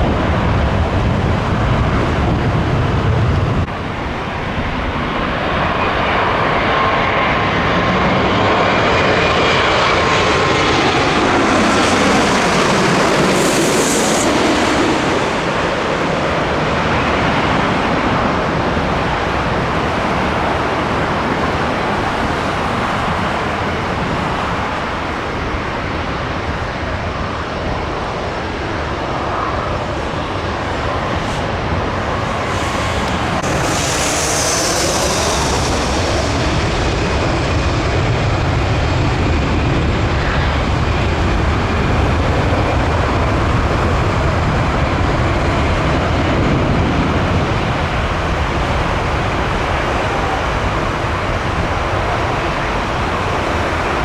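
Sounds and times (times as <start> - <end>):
jet airliner passing overhead: 0.0 - 54.0.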